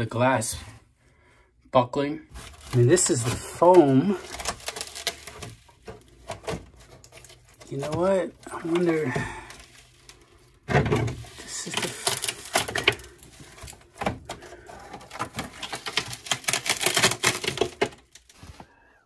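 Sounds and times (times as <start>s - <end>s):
insulation crackling and snapping: 2.3s - 18.6s.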